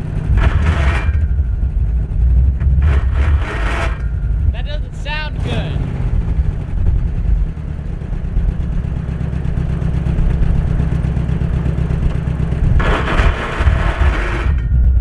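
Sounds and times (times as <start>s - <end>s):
truck engine low rumble: 0.0s - 15.0s.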